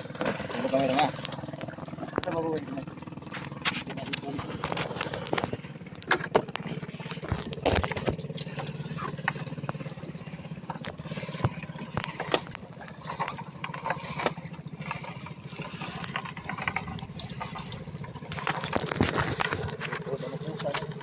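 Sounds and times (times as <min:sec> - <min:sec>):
boat engine idling: 0:00.0 - 0:21.0
water splashing and dripping: 0:00.0 - 0:21.0.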